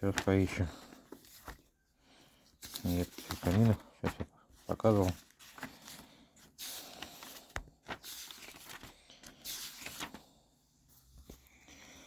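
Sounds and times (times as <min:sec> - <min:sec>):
book pages rustling: 0:00.0 - 0:01.8, 0:02.5 - 0:11.8.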